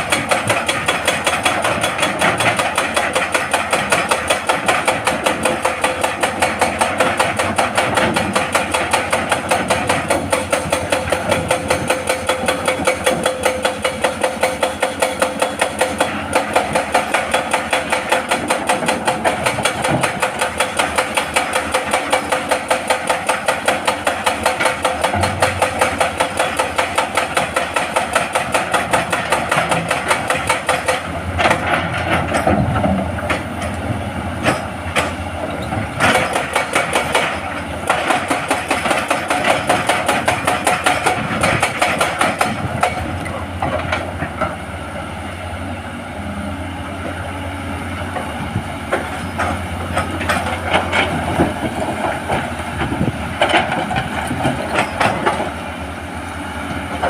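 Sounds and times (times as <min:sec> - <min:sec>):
hydraulic breaker pounding rock: 0:00.0 - 0:44.7, 0:48.0 - 0:55.9, 0:56.6 - 0:57.0
excavator diesel engine: 0:00.0 - 0:57.0.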